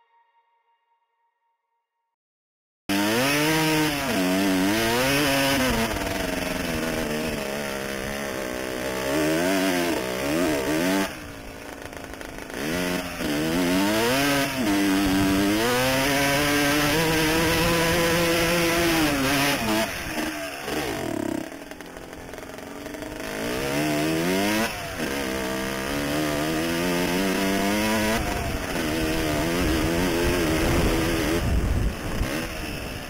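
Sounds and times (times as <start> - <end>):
dirt bike engine revving: 2.9 - 33.0.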